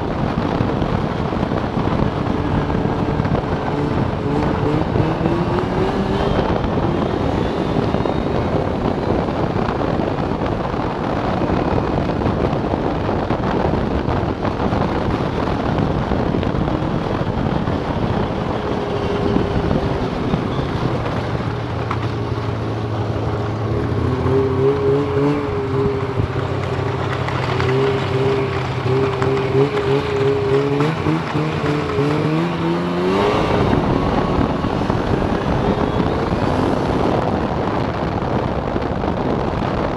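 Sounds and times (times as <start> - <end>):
snowmobile engine running hard: 0.0 - 39.9
track and wind noise: 0.0 - 39.9.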